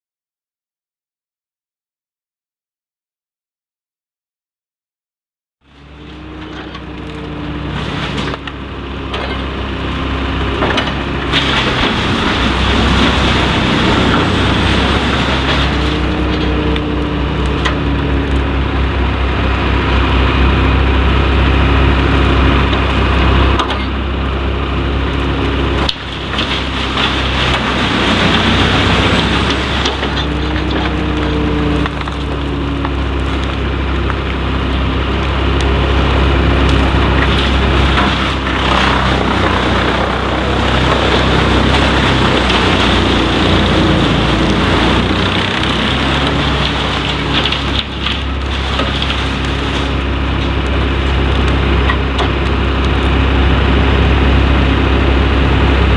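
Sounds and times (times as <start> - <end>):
deep truck engine running hard: 5.6 - 55.9
wood crackling and splintering: 5.7 - 55.9.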